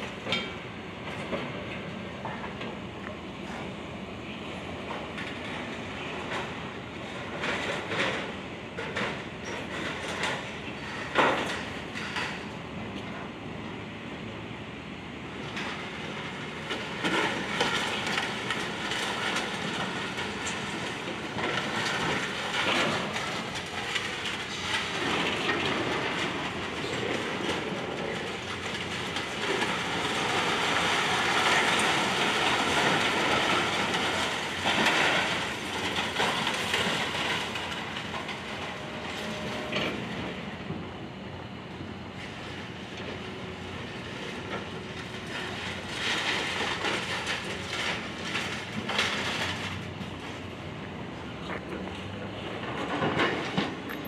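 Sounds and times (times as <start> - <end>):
excavator clattering: 4.8 - 12.5, 15.4 - 40.8, 41.5 - 54.0.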